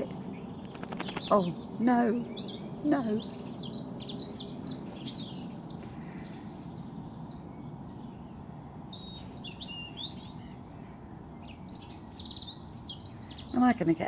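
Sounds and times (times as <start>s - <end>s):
low background hum: 0.0s - 14.0s
songbirds chirping and singing: 0.0s - 14.0s.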